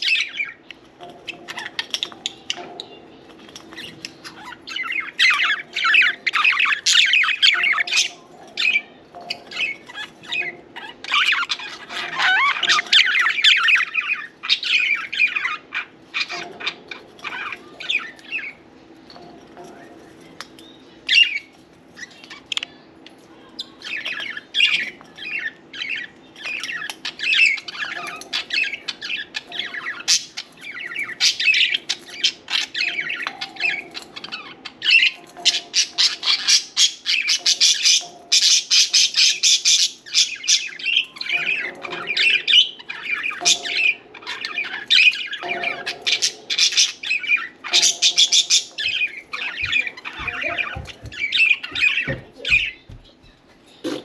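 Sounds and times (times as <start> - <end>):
budgerigars chirping: 0.0 - 18.6, 21.0 - 22.8, 23.5 - 53.0.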